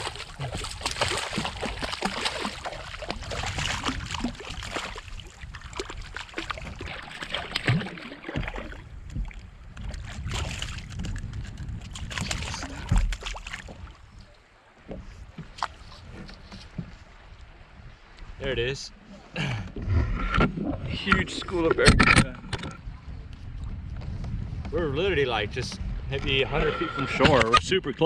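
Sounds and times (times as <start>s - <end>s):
water splashing against hull: 0.0s - 28.0s.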